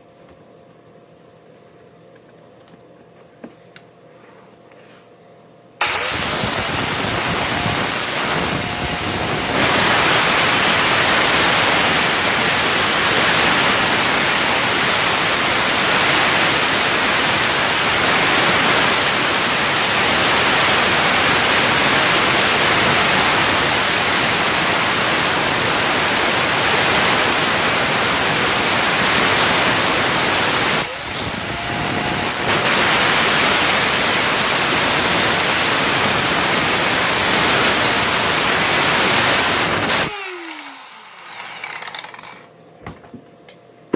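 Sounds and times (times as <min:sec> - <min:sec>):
power tool grinding metal: 0:05.8 - 0:42.4.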